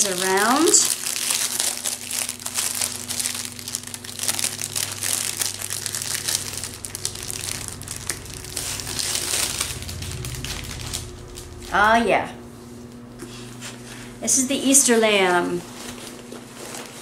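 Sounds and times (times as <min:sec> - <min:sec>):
plastic wrapping crinkling: 0:00.0 - 0:12.0, 0:14.8 - 0:17.0.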